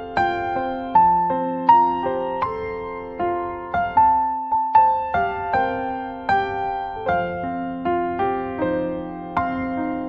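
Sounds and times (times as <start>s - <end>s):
piano playing slow hymn chords: 0.0s - 10.0s.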